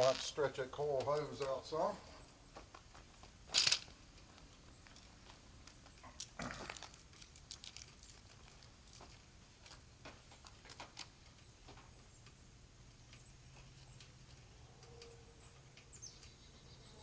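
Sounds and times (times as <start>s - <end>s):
faint clicks and rustles of handling: 0.0s - 16.5s.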